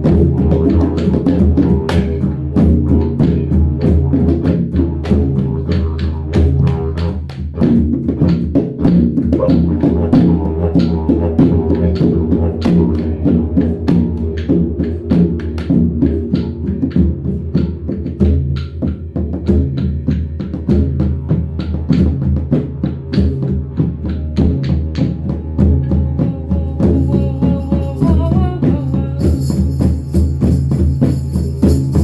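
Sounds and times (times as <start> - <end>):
didgeridoo low drone: 0.0 - 32.0
frame drums beaten fast: 0.0 - 32.0.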